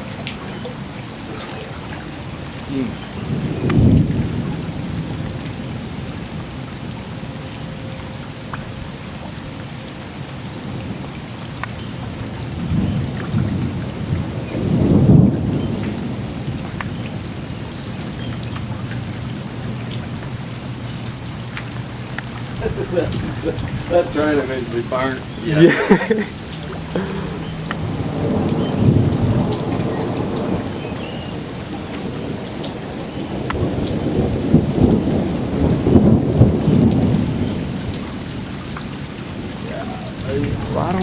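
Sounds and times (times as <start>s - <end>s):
low rolls of thunder: 0.0s - 41.0s
steady rain falling: 0.0s - 41.0s.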